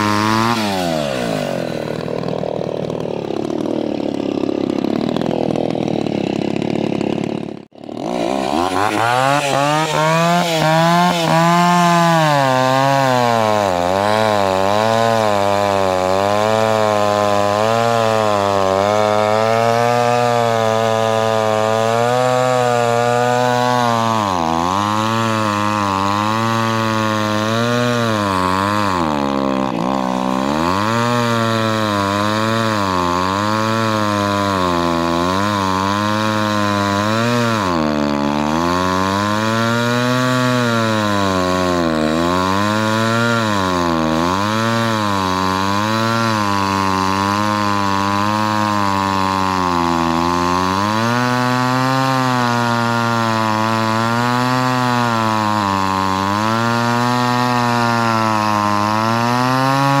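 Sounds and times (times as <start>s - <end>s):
chainsaw cutting through log: 0.0s - 60.0s.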